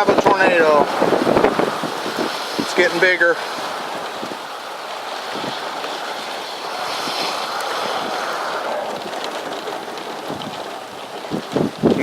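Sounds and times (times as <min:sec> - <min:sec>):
rain: 0:00.0 - 0:12.0
wind rushing: 0:00.0 - 0:12.0.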